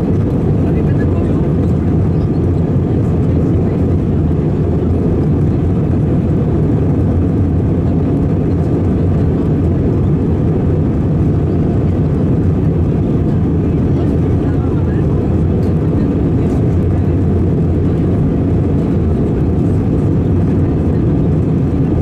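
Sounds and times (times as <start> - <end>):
airliner cabin roar: 0.0 - 22.0.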